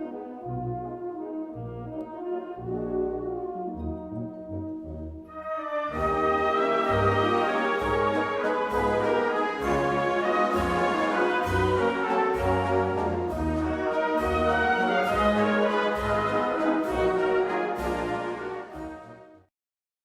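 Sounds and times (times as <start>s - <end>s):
brass-heavy orchestral music: 0.0s - 19.5s.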